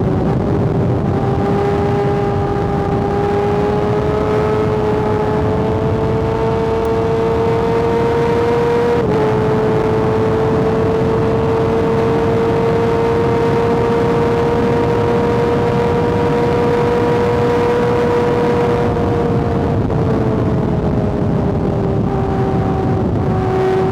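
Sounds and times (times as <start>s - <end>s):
motorcycle engine at high revs: 0.0s - 23.9s.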